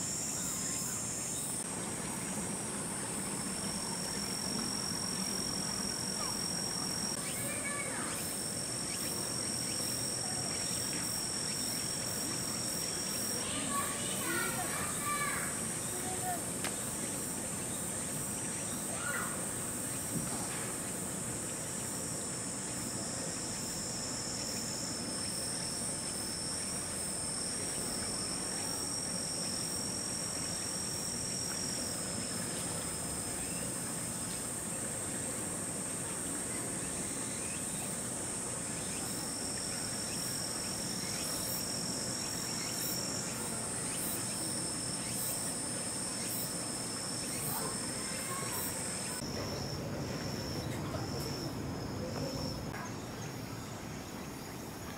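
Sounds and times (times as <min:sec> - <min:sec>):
insects singing shrill chorus: 0:00.0 - 0:20.2, 0:20.8 - 0:52.8.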